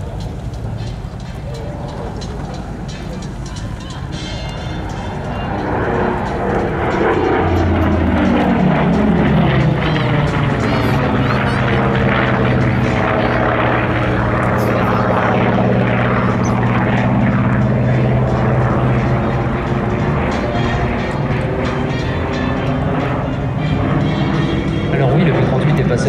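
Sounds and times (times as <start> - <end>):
propeller plane engines droning: 0.0 - 26.0.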